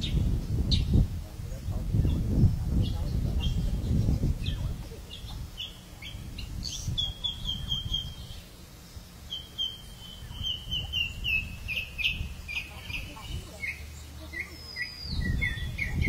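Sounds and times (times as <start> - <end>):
birds chirping: 0.0 - 16.0
steady low rumble: 0.0 - 16.0.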